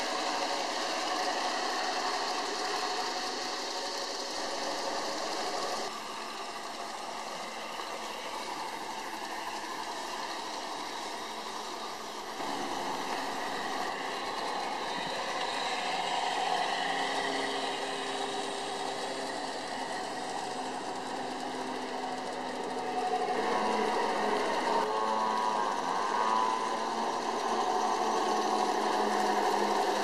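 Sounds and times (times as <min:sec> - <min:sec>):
model train motors whirring: 0:00.0 - 0:30.0.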